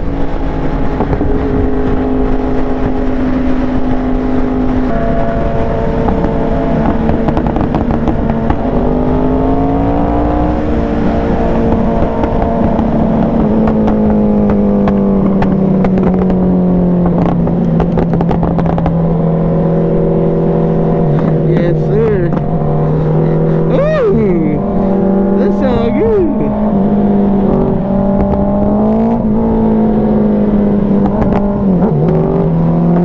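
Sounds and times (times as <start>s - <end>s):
motorcycle engine cruising: 0.0s - 33.0s
wind rushing: 0.0s - 33.0s.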